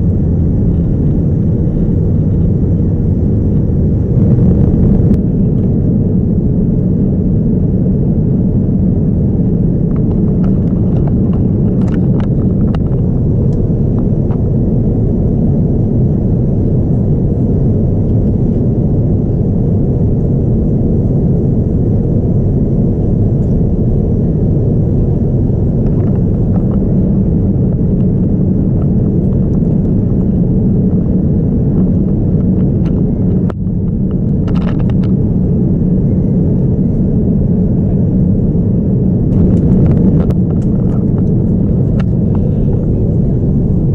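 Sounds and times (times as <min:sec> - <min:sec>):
airplane cabin engine rumble: 0:00.0 - 0:43.9.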